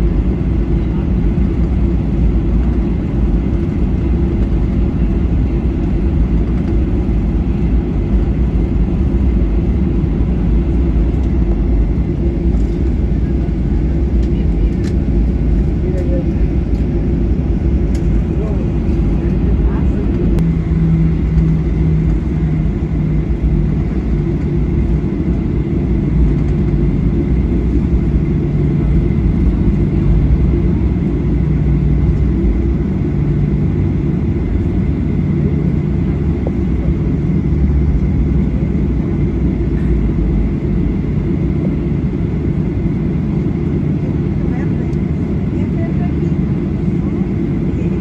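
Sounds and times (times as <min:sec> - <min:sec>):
airplane cabin engine rumble: 0:00.0 - 0:48.0
low hum: 0:00.0 - 0:48.0.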